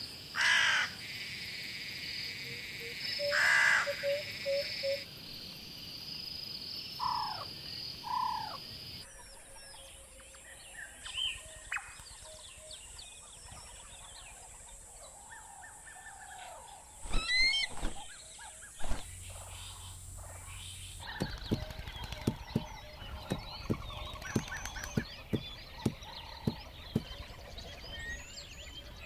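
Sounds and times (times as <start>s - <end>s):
wild birds calling and chirping: 0.0s - 29.0s.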